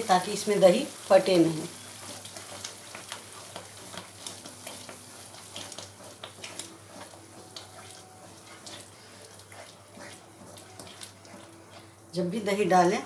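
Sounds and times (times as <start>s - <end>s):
gravy sizzling with pops: 0.0s - 13.0s
spatula stirring and scraping: 0.0s - 13.0s.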